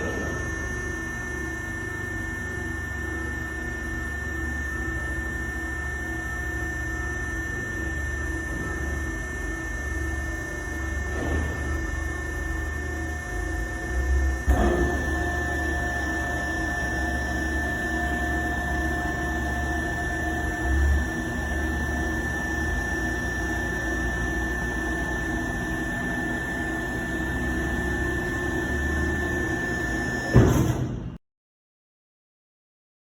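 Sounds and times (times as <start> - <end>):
baler motor and pump whine: 0.0 - 31.2.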